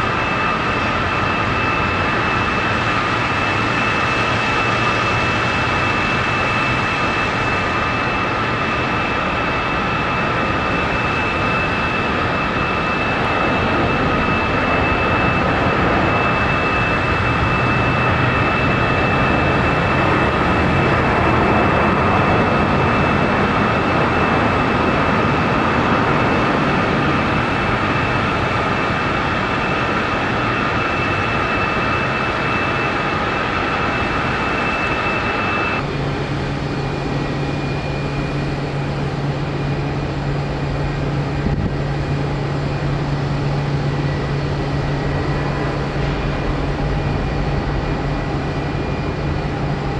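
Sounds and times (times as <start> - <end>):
jet engines with turbofan whine: 0.0 - 49.9.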